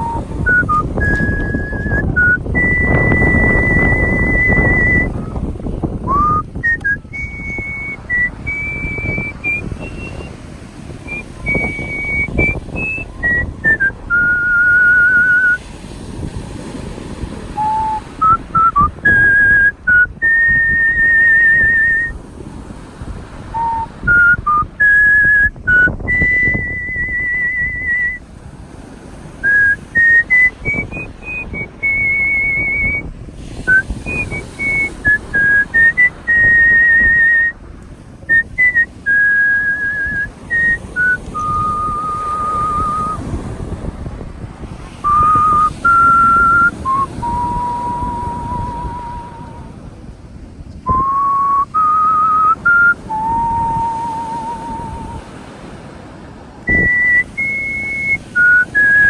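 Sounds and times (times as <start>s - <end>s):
person whistling a slow melody: 0.0s - 10.4s, 11.0s - 15.7s, 17.6s - 22.2s, 23.5s - 28.2s, 29.4s - 37.6s, 38.3s - 43.4s, 45.0s - 49.8s, 50.9s - 55.4s, 56.7s - 59.0s.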